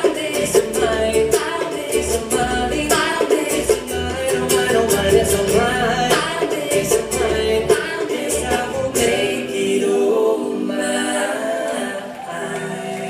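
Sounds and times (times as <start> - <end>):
acoustic band playing: 0.0 - 13.0
voices singing harmonies: 0.0 - 13.0.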